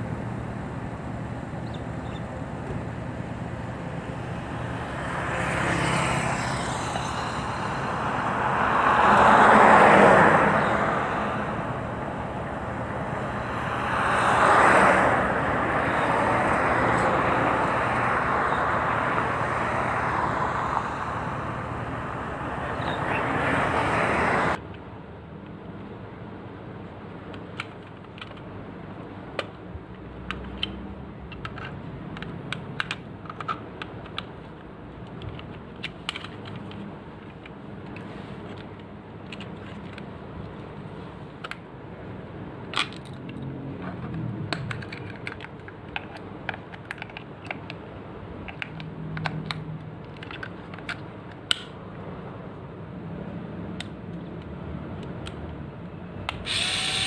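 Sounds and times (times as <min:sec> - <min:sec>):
outdoor background noise: 0:00.0 - 0:57.0.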